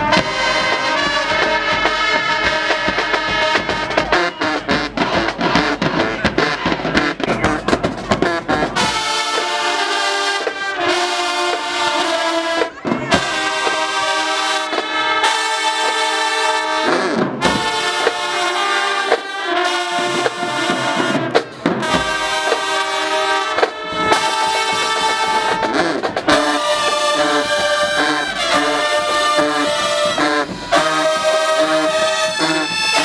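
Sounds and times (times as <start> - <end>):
marching band brass chords: 0.0 - 33.0.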